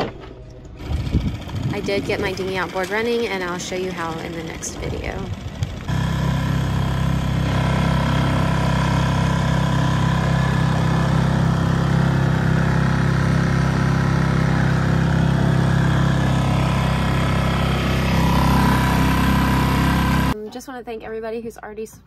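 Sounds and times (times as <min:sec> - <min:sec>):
outboard motor running: 0:00.6 - 0:20.4.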